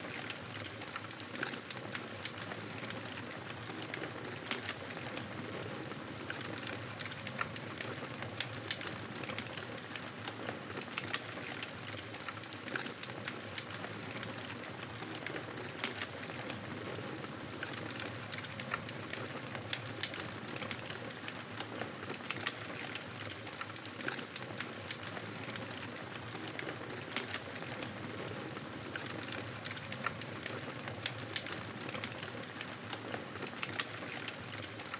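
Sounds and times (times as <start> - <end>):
fire crackling and popping: 0.0 - 34.9.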